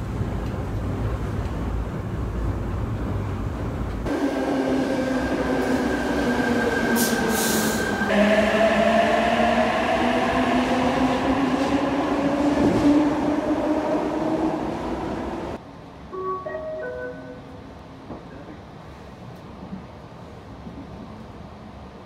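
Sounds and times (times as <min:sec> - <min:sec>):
train whine and rumble: 0:00.0 - 0:22.0.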